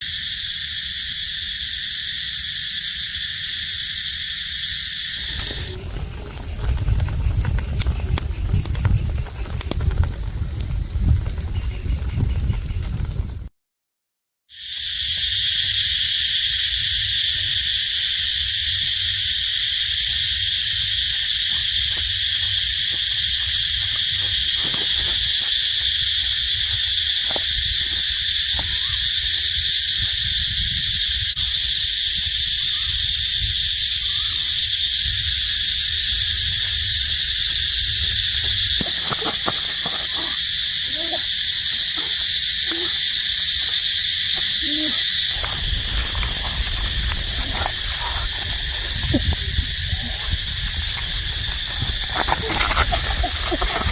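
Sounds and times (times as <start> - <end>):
insect chorus: 0.0 - 13.5, 14.5 - 53.9.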